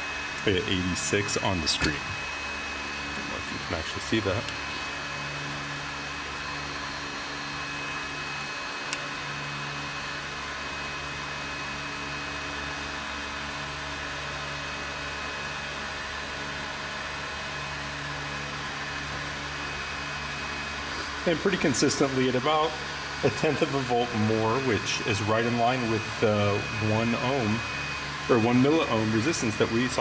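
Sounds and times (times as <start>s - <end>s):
equipment whirring hum and hiss: 0.0s - 30.0s.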